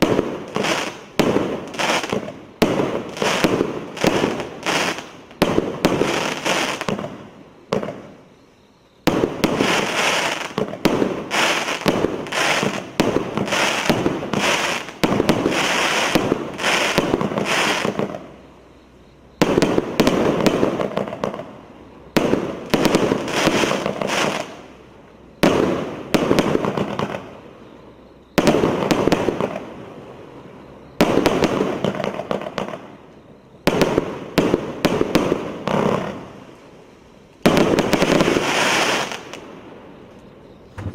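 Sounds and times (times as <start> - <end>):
firework crackling: 0.0 - 8.4, 9.0 - 18.5, 19.4 - 40.2
fireworks firing in volleys: 0.0 - 40.9.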